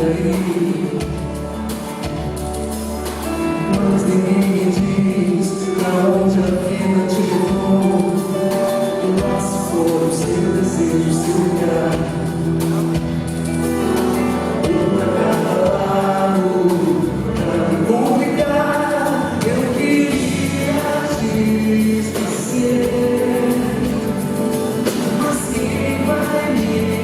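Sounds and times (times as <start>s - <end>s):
people singing with band: 3.6s - 13.2s, 14.4s - 27.0s.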